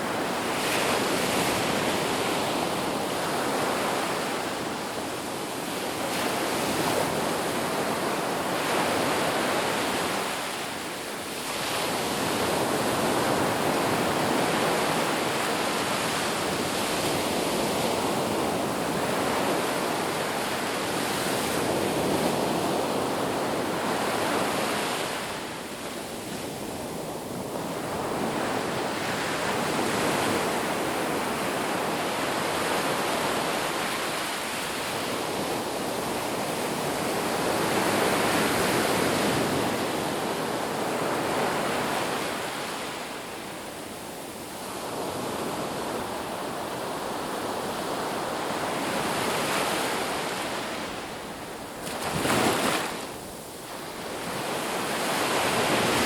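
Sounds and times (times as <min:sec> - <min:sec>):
ocean surf washing onto beach: 0:00.0 - 0:56.0.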